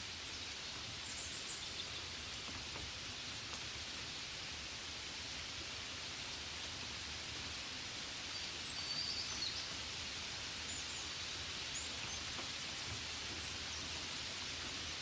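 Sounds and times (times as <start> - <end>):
gentle rain hiss: 0.0 - 15.0.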